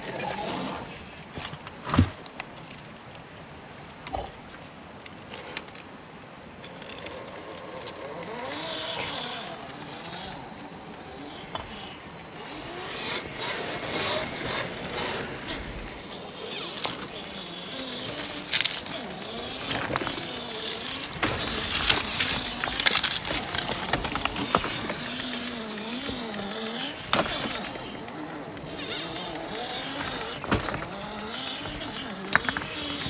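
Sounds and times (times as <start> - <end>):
electric motor and gears whining: 0.0 - 33.0.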